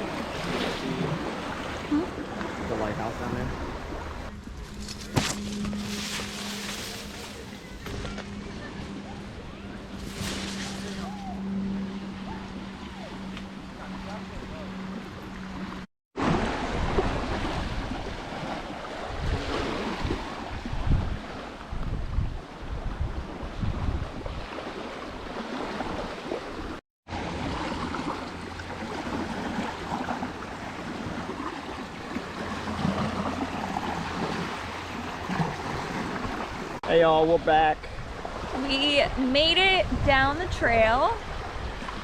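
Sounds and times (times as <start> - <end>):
rushing water: 0.0 - 8.0, 9.6 - 39.1
wind rumbling on microphone: 0.0 - 36.8, 37.8 - 42.0.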